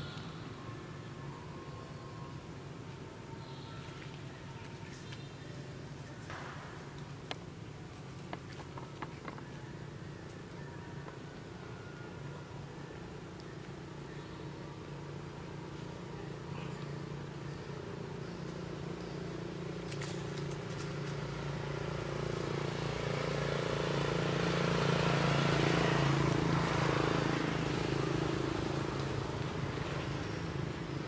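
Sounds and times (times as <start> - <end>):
engine humming: 0.0 - 31.0.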